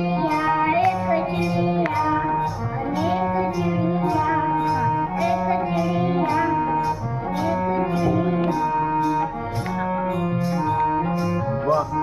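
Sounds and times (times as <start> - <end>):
instrumental music with brass melody: 0.0 - 12.0.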